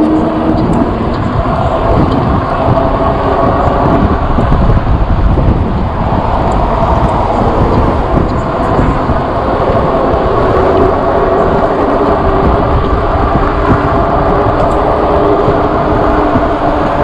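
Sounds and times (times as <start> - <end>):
motor vehicle traffic: 0.0 - 17.0
road noise: 0.0 - 17.0
wind buffeting microphone: 0.0 - 17.0.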